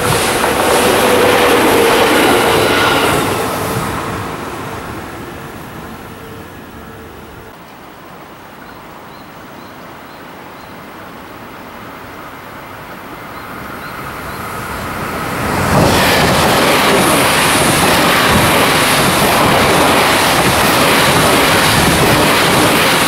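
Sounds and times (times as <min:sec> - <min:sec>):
electric train passing at speed: 0:00.0 - 0:23.0.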